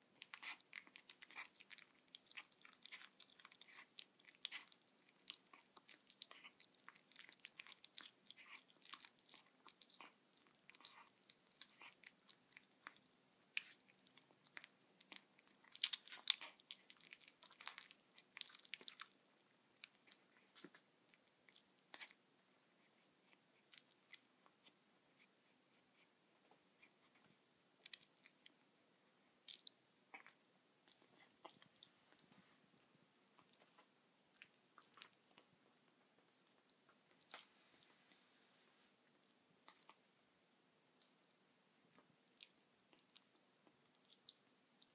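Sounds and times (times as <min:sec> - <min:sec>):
kitten chewing: 0:00.0 - 0:44.9.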